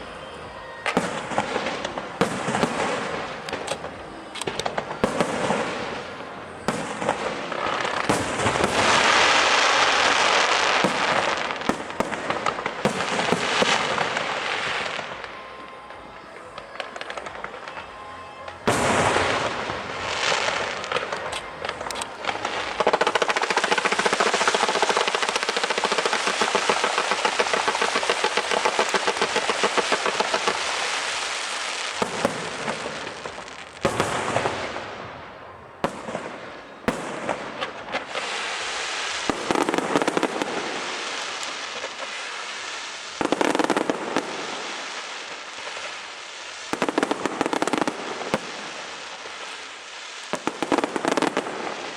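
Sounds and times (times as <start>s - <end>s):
fireworks crackling bursts: 0.0s - 51.9s.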